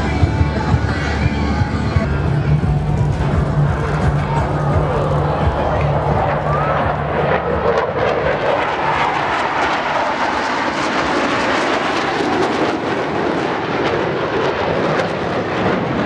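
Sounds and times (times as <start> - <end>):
jets flying past: 1.8 - 16.0.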